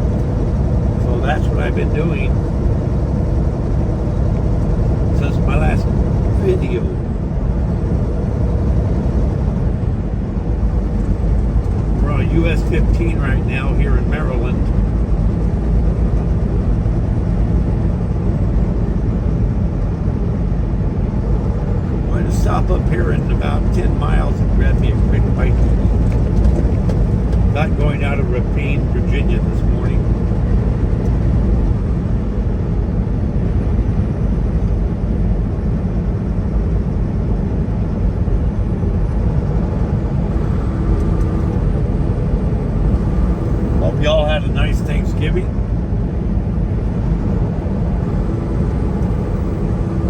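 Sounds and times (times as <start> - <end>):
road noise: 0.0 - 50.0
truck engine drone: 0.0 - 50.0.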